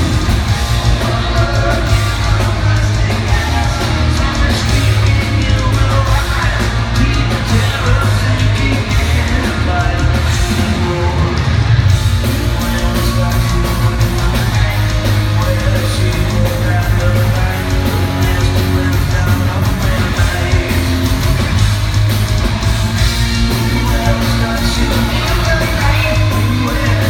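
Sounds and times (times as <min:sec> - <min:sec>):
heavy metal band playing live: 0:00.0 - 0:27.0.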